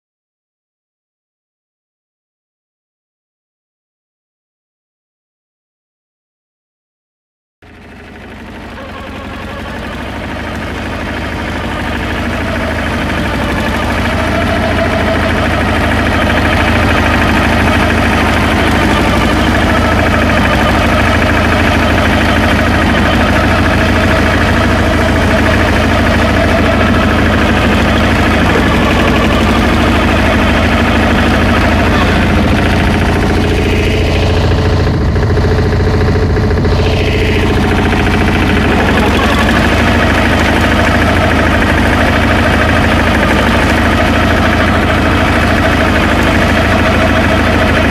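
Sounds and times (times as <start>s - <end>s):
walking tractor engine running: 7.6s - 47.9s.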